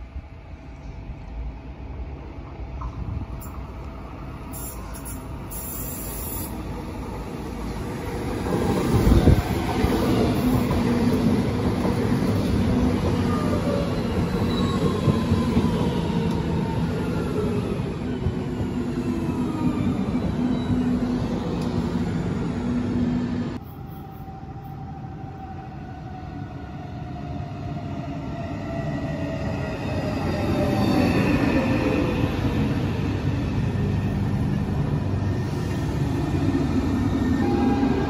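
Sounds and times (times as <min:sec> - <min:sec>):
electric train approaching rumble: 0:00.0 - 0:38.0.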